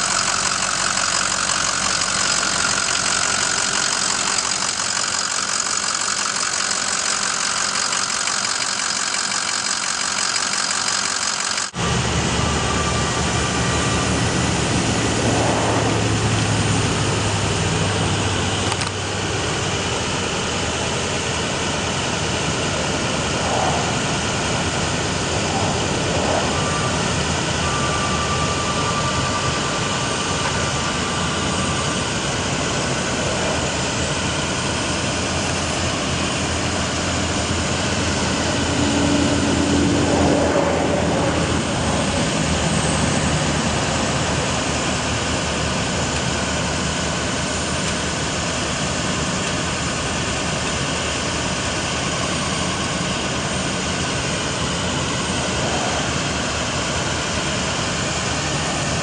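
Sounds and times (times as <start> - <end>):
thin steady whine: 0.0 - 59.0
truck engine running: 0.0 - 59.0.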